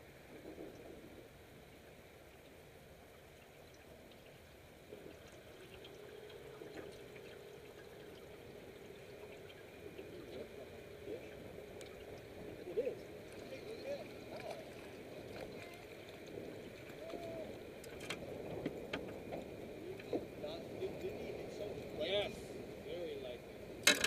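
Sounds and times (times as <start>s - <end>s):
river water trickling: 0.0s - 24.0s
steady low hum: 0.0s - 24.0s.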